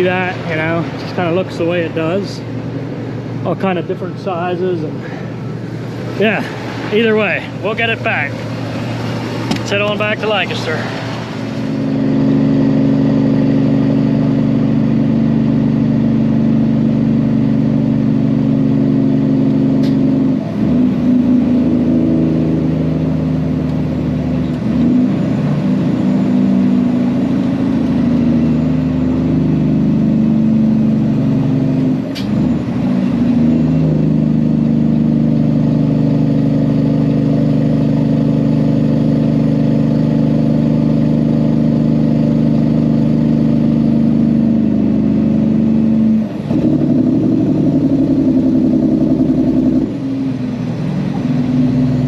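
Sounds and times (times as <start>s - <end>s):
truck diesel engine running: 0.0s - 52.0s.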